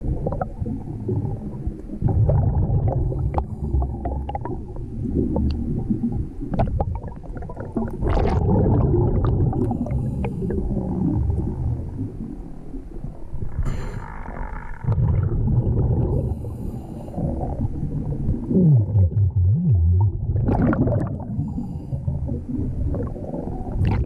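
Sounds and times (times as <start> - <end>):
underwater breath bubbles gurgling: 0.0 - 24.0.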